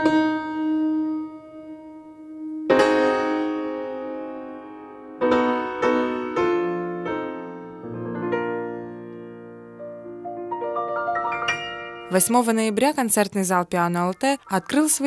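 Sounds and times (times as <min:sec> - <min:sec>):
solo piano: 0:00.0 - 0:12.6.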